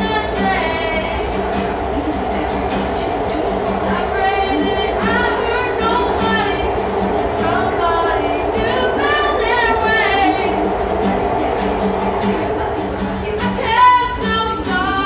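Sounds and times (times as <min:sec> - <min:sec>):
strummed acoustic guitar: 0:00.0 - 0:15.0
subway car rumble: 0:00.0 - 0:15.0
woman singing: 0:00.0 - 0:15.0.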